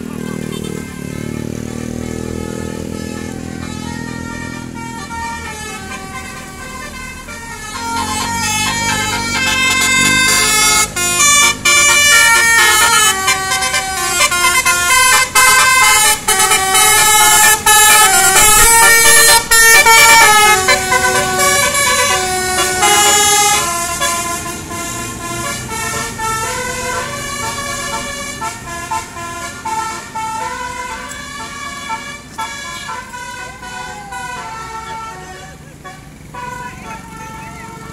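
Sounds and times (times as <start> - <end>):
bus air horns playing melody: 0.0 - 37.9.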